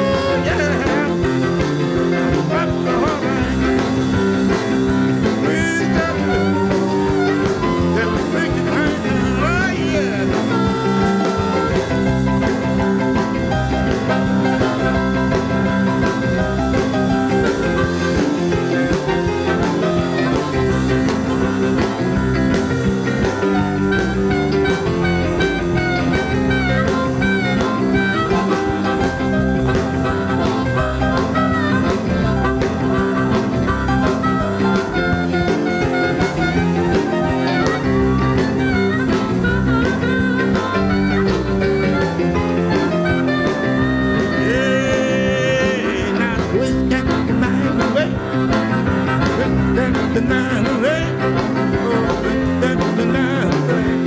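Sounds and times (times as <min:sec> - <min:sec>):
bass: 0:00.0 - 0:54.0
drums: 0:00.0 - 0:54.0
electric guitar: 0:00.0 - 0:54.0.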